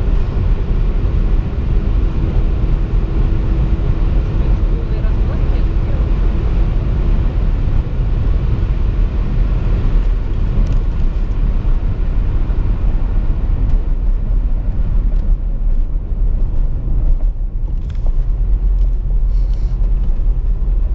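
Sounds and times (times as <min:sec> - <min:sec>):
car engine droning: 0:00.0 - 0:20.9
wind rush: 0:00.0 - 0:20.9.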